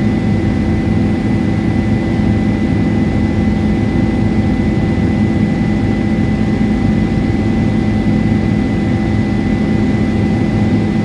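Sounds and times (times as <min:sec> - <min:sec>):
helicopter engine and rotor rumble: 0:00.0 - 0:11.0.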